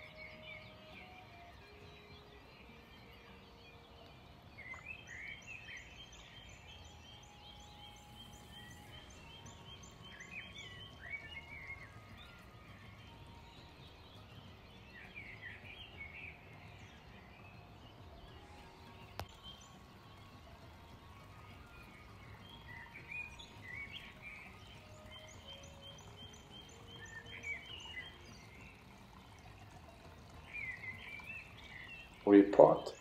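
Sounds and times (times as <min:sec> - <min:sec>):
small birds chirping and singing: 0:00.0 - 0:33.0.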